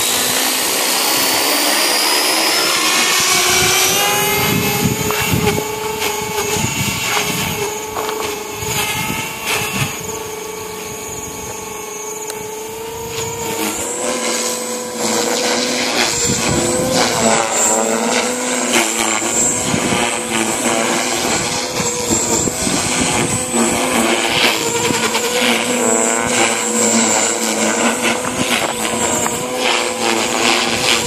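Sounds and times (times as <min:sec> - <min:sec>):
model helicopter whining: 0:00.0 - 0:31.0.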